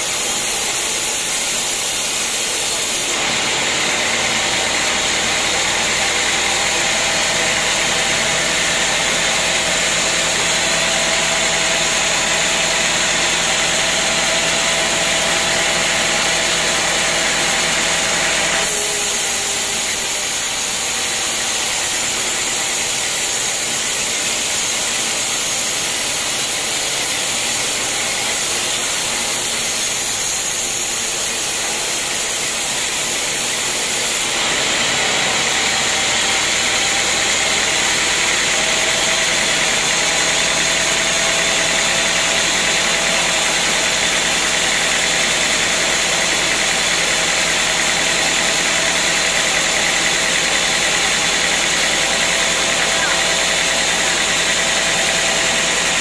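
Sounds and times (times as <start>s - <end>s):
band saw whirring: 0.0s - 56.0s.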